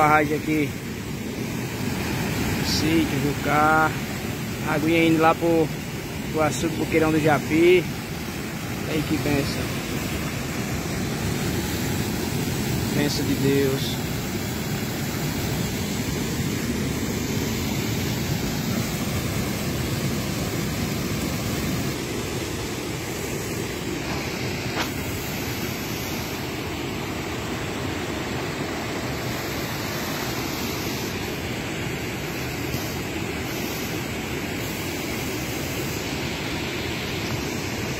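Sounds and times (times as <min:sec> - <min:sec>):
water rushing over dam: 0:00.0 - 0:37.9.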